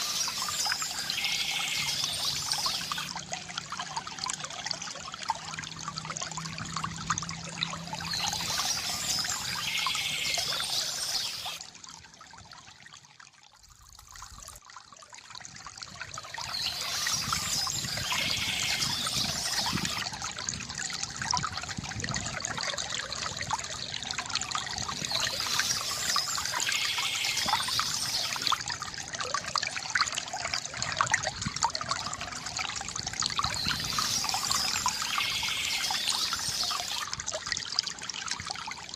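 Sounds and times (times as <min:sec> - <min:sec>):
water pouring from fountain: 0:00.0 - 0:38.9.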